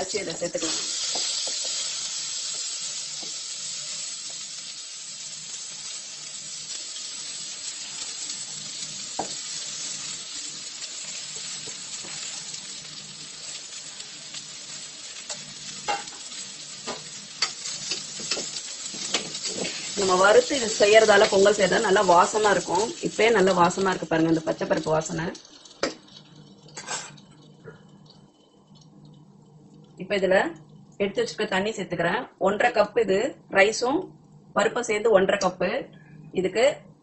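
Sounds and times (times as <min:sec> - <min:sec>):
grains sizzling in hot fat: 0:00.0 - 0:30.8.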